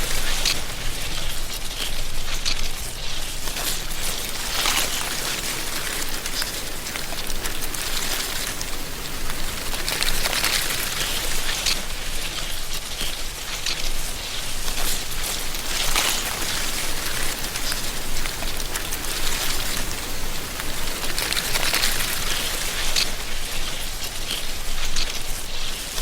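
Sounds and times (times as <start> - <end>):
wind rustling dry leaves: 0.0 - 26.0.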